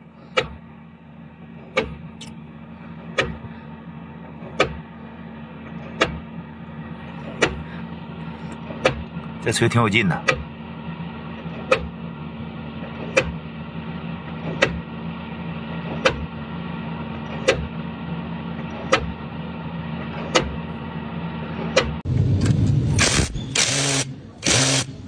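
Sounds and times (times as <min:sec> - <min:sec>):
rig engine humming: 0:00.0 - 0:25.0.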